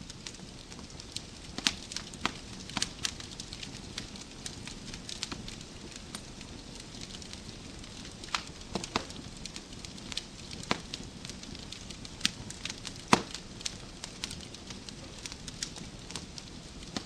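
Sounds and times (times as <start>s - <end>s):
fireplace fire crackling: 0.0s - 17.0s
low hiss of flames: 0.0s - 17.0s
sharp pops from burning logs: 0.0s - 17.0s.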